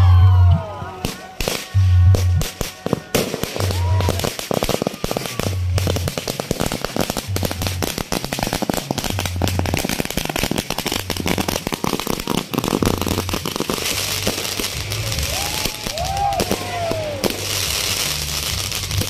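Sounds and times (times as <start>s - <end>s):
firecrackers banging: 0.9s - 19.0s.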